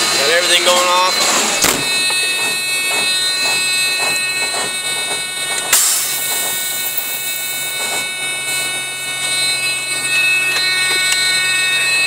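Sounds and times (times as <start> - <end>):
dashboard warning buzzer: 0.0 - 12.0.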